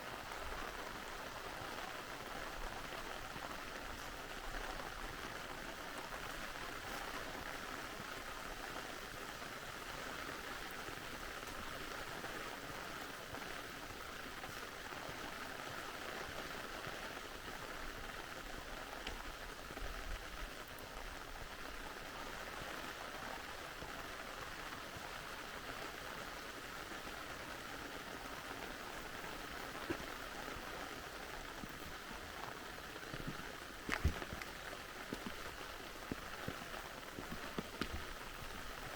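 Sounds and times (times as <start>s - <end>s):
steady rain falling: 0.0s - 38.9s
stream running: 0.0s - 38.9s.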